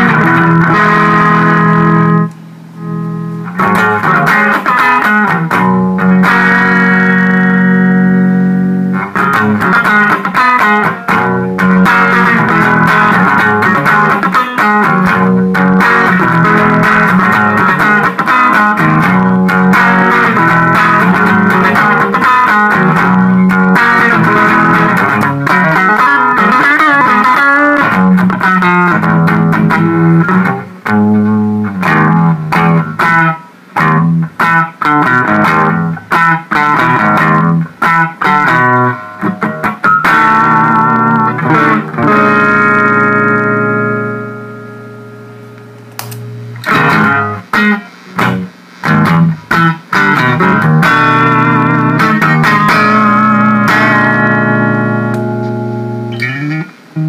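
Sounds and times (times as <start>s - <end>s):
distorted electric guitar chords: 0.0s - 57.0s.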